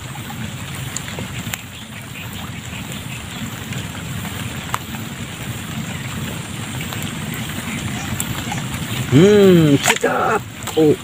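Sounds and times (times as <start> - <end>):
wind rumble on microphone: 0.0 - 9.8
light rain on water: 0.0 - 11.0.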